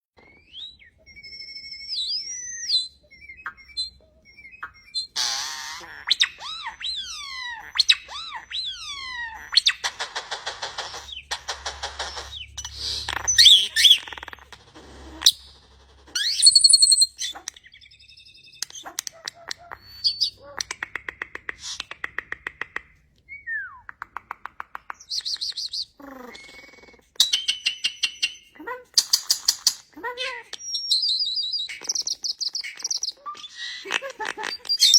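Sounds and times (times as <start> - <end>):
bird whistles and trills: 0.2 - 20.9, 24.8 - 29.9, 30.5 - 34.9.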